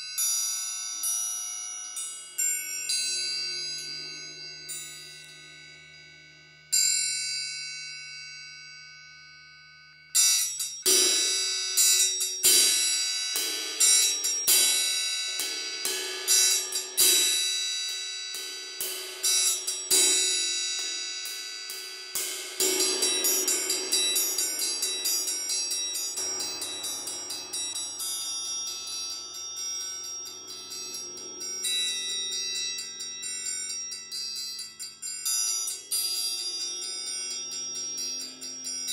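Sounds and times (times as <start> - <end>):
triangles struck ringing: 0.0 - 38.9.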